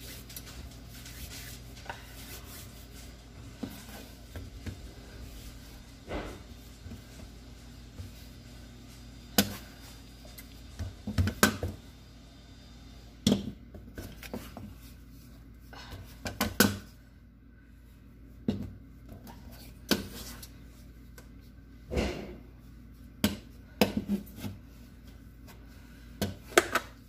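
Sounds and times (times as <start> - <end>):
scraper and hands slapping dough: 0.0 - 11.9, 13.2 - 17.0, 18.3 - 27.0
faint steady hum: 0.0 - 27.0.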